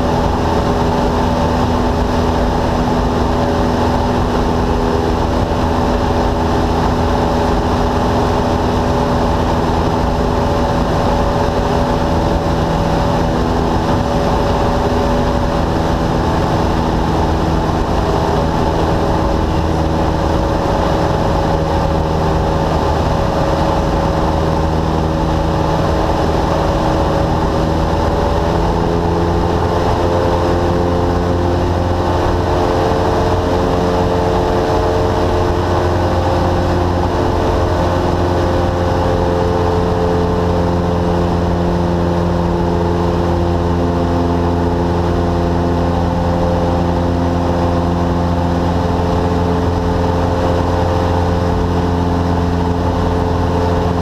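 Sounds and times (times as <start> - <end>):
aircraft engine drone in cabin: 0.0 - 54.0.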